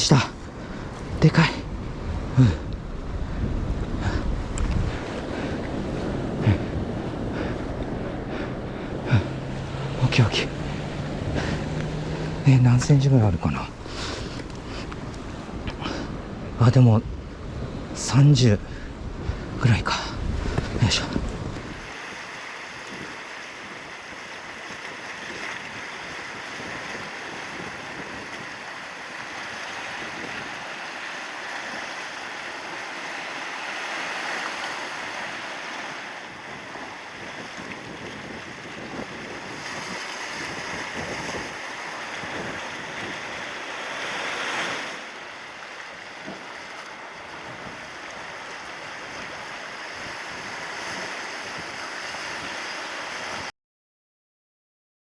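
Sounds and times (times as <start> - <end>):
surf washing against rocks: 0.0 - 53.5.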